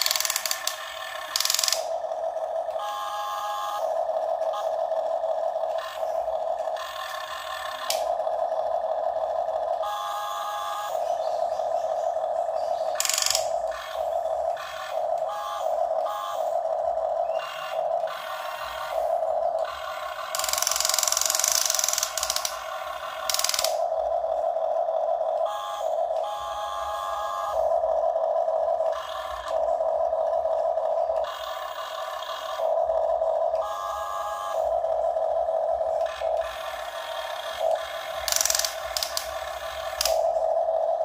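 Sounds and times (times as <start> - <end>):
electric gear motors whining: 0.0 - 41.0.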